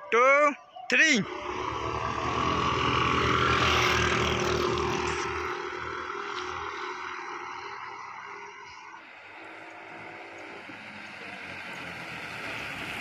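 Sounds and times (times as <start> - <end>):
scooters accelerating hard: 1.2 - 13.0.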